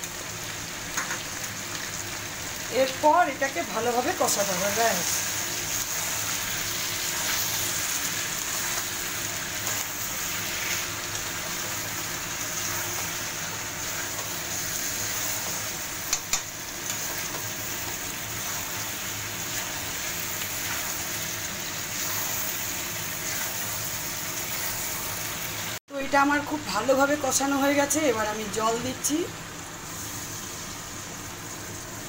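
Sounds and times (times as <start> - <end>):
chicken sizzling in hot oil: 0.0 - 32.0.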